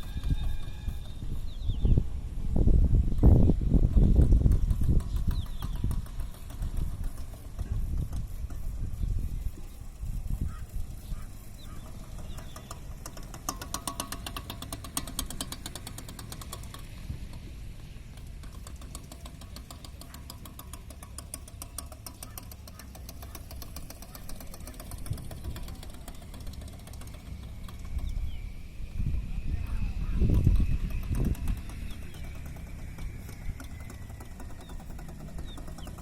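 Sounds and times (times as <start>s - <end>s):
car engine running: 3.2s - 36.0s.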